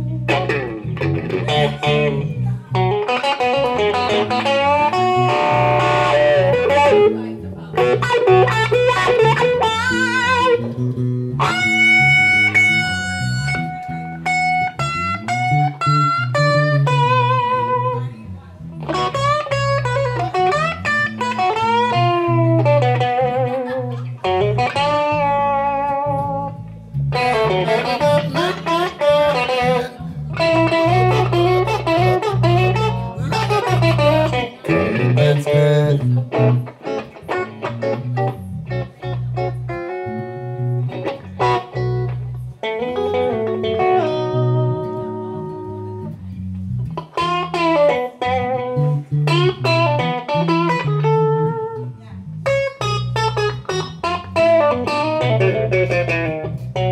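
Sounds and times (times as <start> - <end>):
electric bass line: 0.0 - 56.9
electric guitar lead: 0.0 - 56.9.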